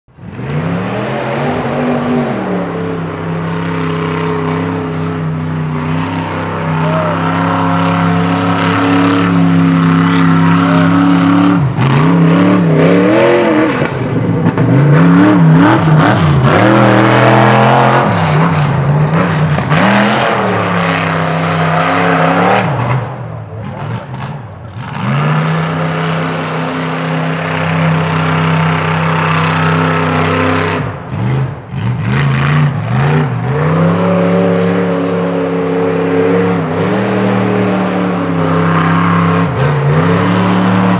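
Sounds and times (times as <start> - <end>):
truck engine revving: 0.1 - 40.9.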